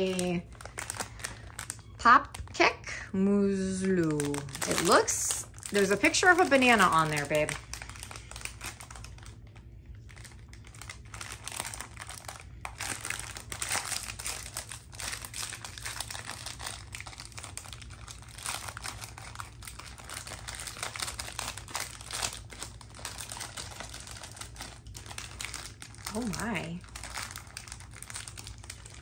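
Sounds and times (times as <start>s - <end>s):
plastic wrapper crackling: 0.0s - 3.0s, 3.6s - 29.0s.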